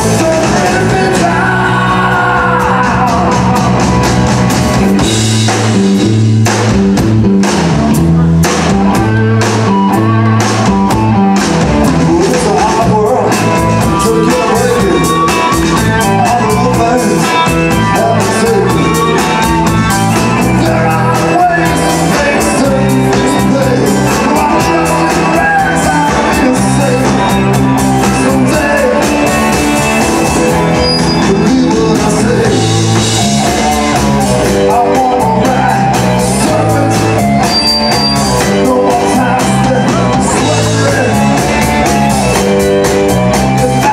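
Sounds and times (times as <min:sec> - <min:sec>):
man singing: 0:00.0 - 0:04.2, 0:11.8 - 0:42.4, 0:43.3 - 0:43.9
drums: 0:00.0 - 0:43.9
electric bass: 0:00.0 - 0:43.9
electric guitars: 0:00.0 - 0:43.9.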